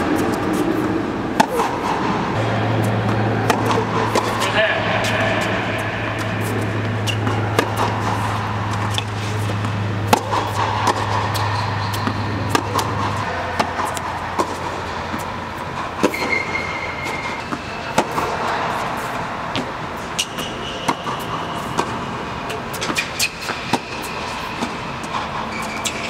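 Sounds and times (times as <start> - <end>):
steady low hum: 0.0 - 25.8
tennis ball hitting racket: 0.0 - 26.0.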